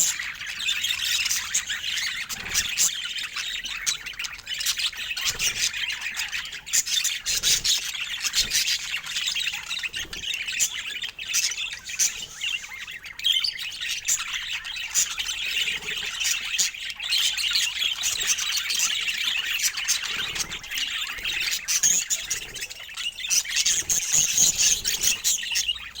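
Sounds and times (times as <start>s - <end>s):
budgies chattering and chirping: 0.0s - 26.0s.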